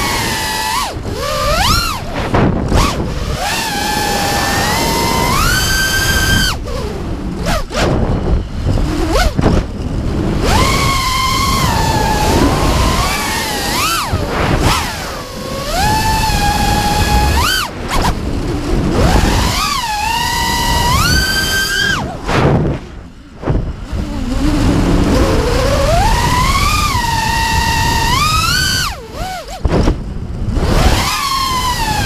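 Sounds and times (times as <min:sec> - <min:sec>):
drone motors whining: 0:00.0 - 0:32.0
rush of air: 0:00.9 - 0:28.6.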